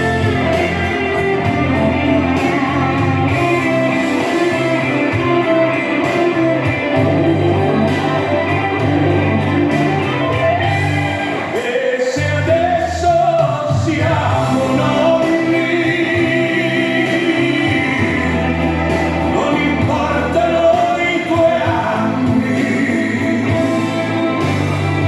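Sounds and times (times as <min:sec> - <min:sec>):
steady bass line: 0:00.0 - 0:11.6, 0:12.2 - 0:25.0
electric guitar: 0:00.0 - 0:25.0
person singing: 0:00.0 - 0:25.0.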